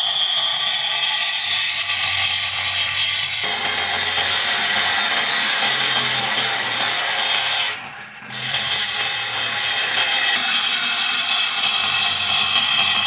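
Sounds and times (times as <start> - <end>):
abrasive tool scraping steel: 0.7 - 13.0.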